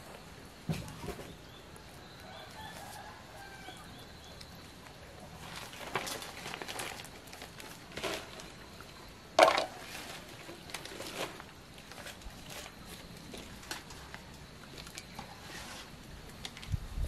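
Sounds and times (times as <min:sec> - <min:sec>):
leaves rustling and crinkling: 0:00.0 - 0:17.0.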